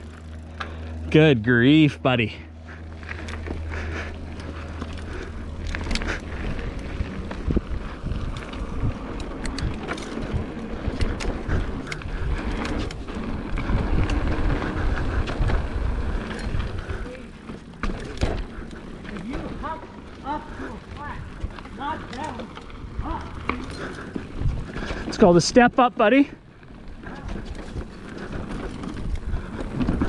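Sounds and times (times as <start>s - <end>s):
bike clicks and rattles: 0.0s - 30.0s
low rumble of tyres on dirt: 0.0s - 30.0s
wind buffeting microphone: 2.9s - 25.8s, 26.4s - 30.0s.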